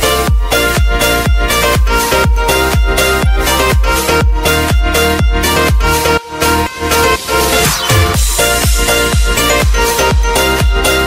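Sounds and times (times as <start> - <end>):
steady kick drum: 0.0 - 6.2, 7.6 - 11.0
electronic dance music: 0.0 - 11.0.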